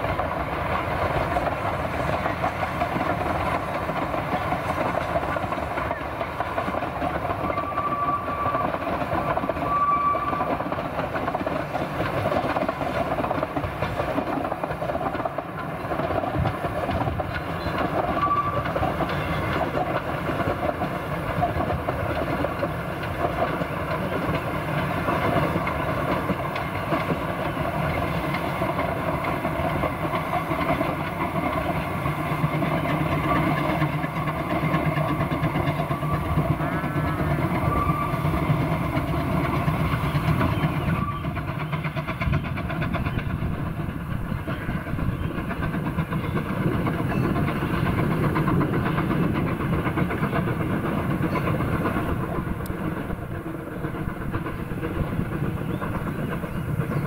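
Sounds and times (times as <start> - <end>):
steam locomotive running: 0.0 - 57.0.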